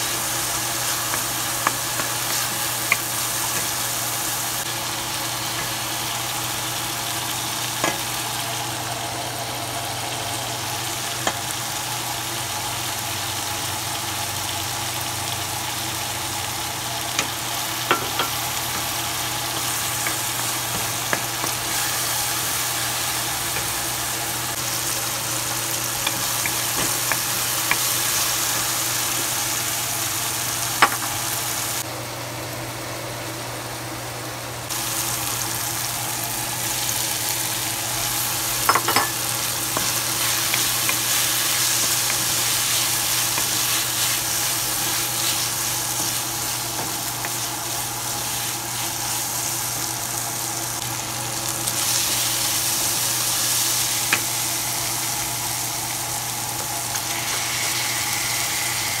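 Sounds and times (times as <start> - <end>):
meat sizzling in a frying pan: 0.0 - 31.8, 34.7 - 59.0.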